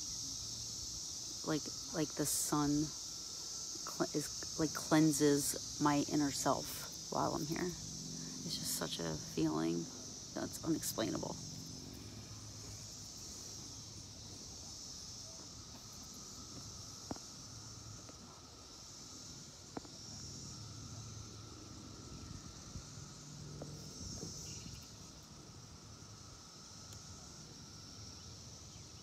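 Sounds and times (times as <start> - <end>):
cicadas high whine: 0.0 - 29.0.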